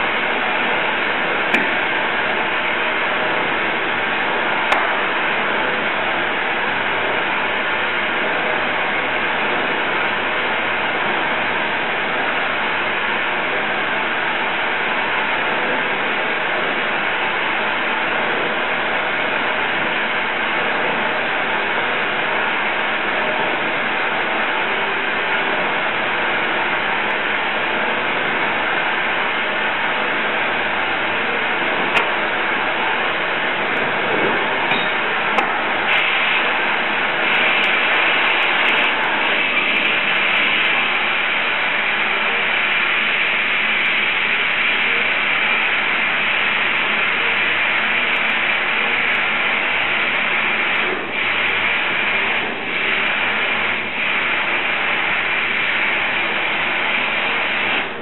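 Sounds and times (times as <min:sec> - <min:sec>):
burner flame hissing: 0:00.0 - 0:58.0.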